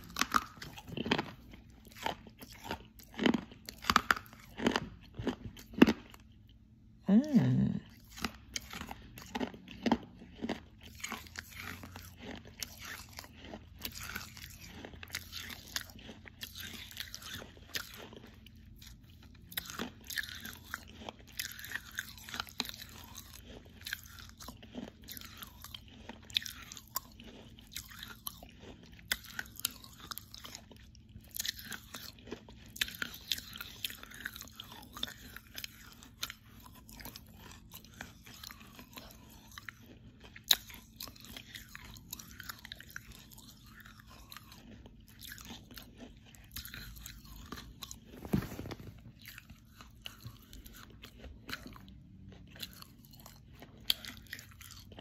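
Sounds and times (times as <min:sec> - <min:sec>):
person chewing crunchy clay: 0:00.0 - 0:55.0.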